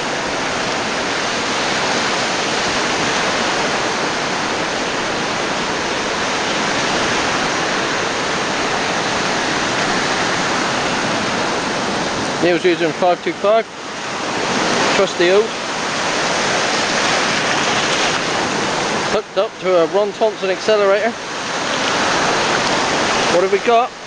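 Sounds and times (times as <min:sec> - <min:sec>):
surf breaking on a beach: 0:00.0 - 0:24.0.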